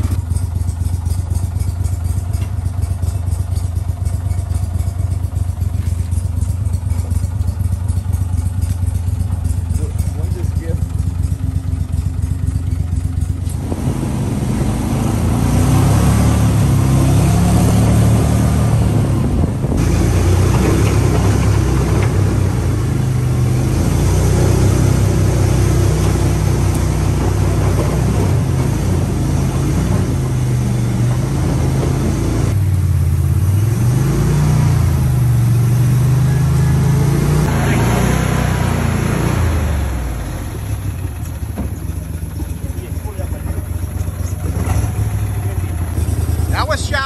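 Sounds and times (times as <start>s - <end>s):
mud motor engine running: 0.0s - 47.0s.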